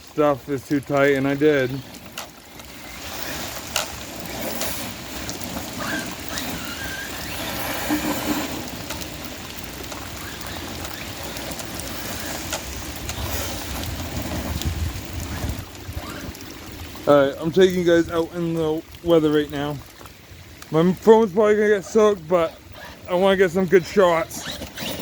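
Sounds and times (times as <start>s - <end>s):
rain: 0.0s - 25.0s
wet tyre noise: 0.0s - 25.0s.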